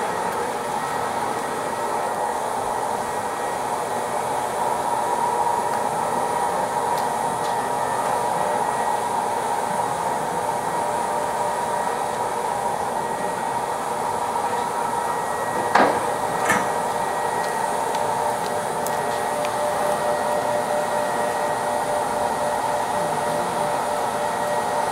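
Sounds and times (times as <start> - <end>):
road-repair machinery droning: 0.0 - 24.9.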